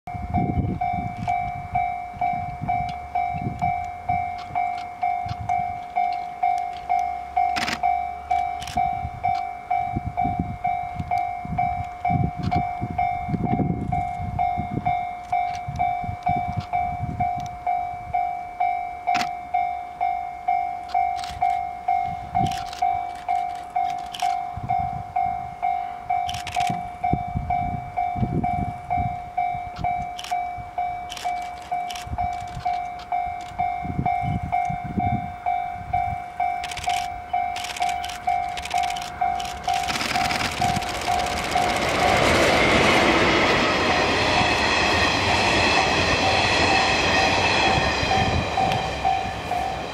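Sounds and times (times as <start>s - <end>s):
level crossing warning bell: 0.1s - 49.9s.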